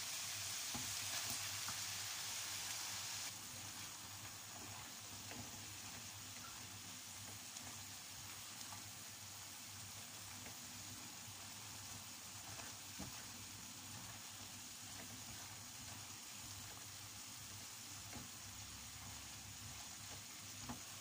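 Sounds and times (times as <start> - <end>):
vegetables sizzling in a pan: 0.0 - 21.0.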